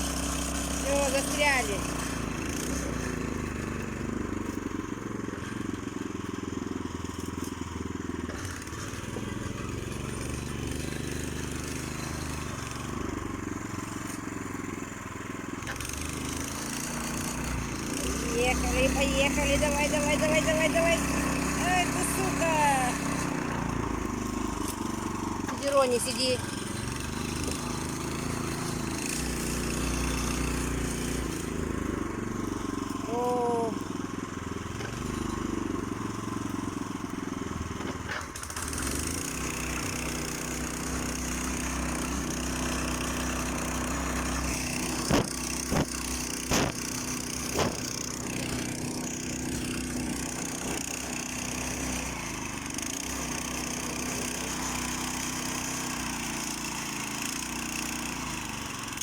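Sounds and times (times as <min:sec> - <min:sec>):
small motorcycle engine running: 0:00.0 - 0:59.0.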